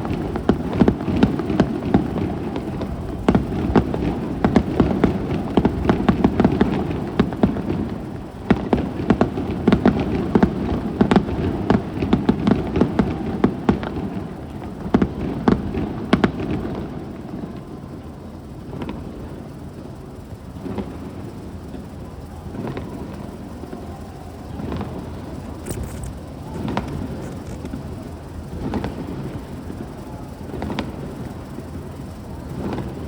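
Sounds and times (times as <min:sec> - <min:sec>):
fireworks booms: 0:00.0 - 0:18.0, 0:18.6 - 0:19.9, 0:20.6 - 0:31.8
fireworks crackling and popping: 0:00.0 - 0:33.0.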